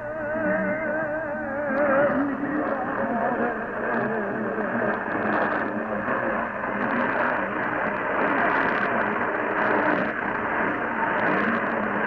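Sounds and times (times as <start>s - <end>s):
faint wavering radio station audio: 0.0s - 12.0s
radio static: 1.5s - 12.0s.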